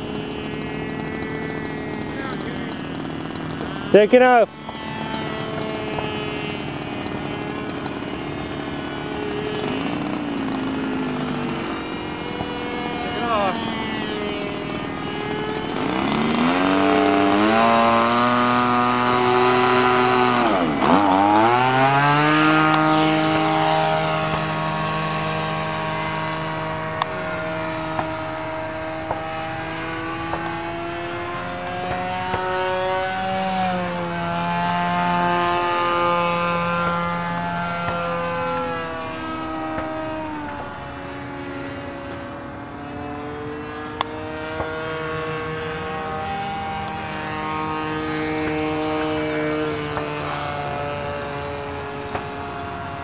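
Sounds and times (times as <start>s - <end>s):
model airplane two-stroke engine: 0.0s - 53.0s.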